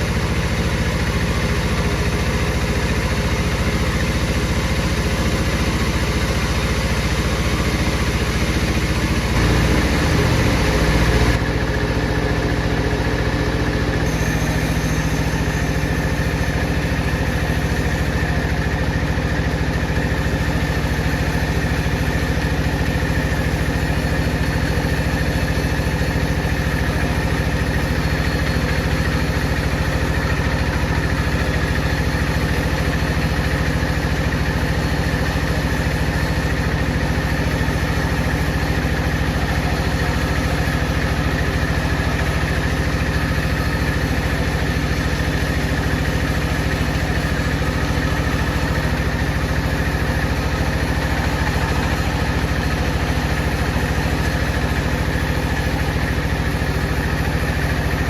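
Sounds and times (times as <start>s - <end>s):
bandsaw motor drone: 0.0s - 58.0s.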